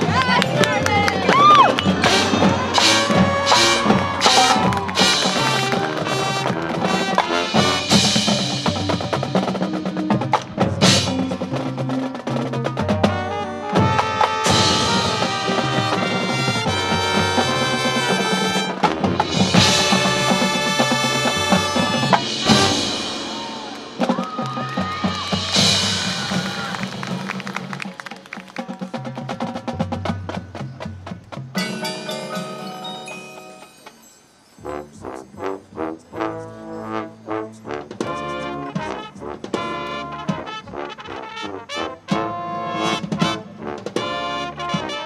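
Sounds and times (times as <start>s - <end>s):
drums: 0.0s - 45.0s
marching band wind chords: 0.0s - 45.0s.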